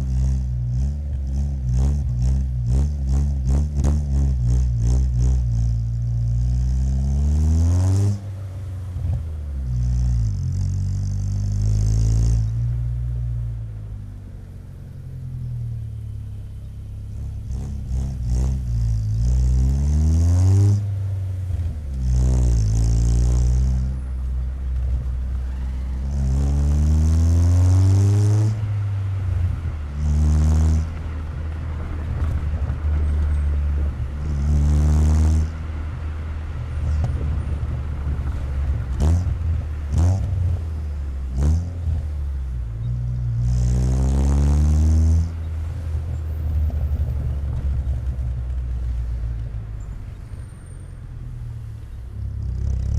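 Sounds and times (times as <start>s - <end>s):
car exhaust accelerating: 0.0s - 52.9s
engine throttle blips: 0.0s - 52.9s.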